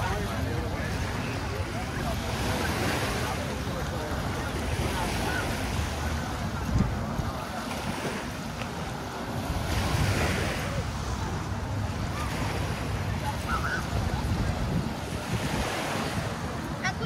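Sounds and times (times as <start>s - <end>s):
surf washing onto beach: 0.0s - 17.0s
wind buffeting microphone: 3.3s - 17.0s.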